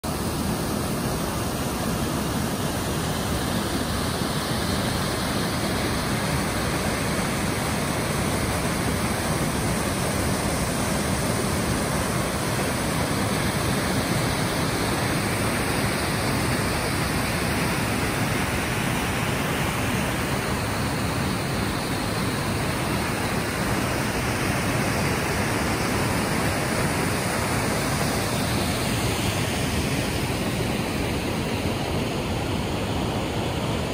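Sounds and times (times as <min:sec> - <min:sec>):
small waterfall rushing: 0:00.0 - 0:33.9.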